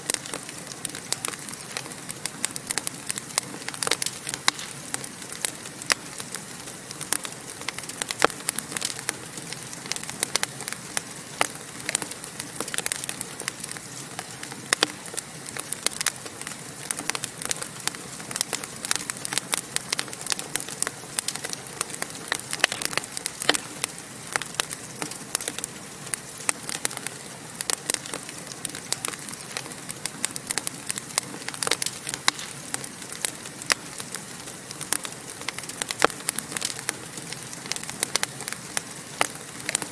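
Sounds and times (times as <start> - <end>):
fire crackles and pops: 0.0 - 39.9
wood fire hissing: 0.0 - 39.9.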